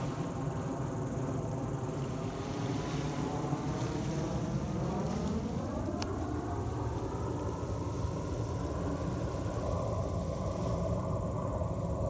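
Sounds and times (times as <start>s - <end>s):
faint engine drone: 0.0s - 12.0s
low rumble of surf: 0.0s - 12.0s.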